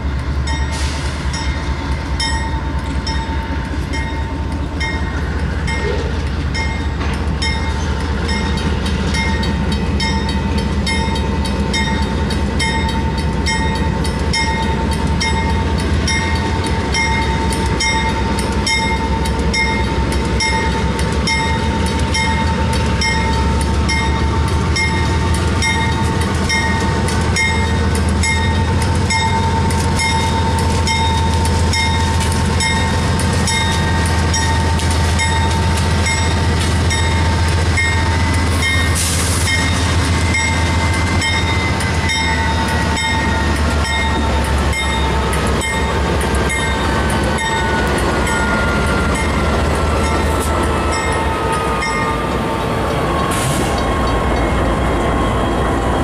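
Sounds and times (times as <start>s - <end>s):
crossing bell dinging: 0.0s - 52.7s
diesel locomotives rumbling: 0.0s - 56.0s.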